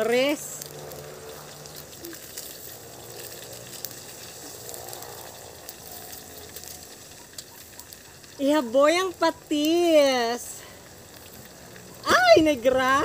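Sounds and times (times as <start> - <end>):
fire crackles: 0.0 - 13.0
leaves frying in a wok: 0.0 - 13.0.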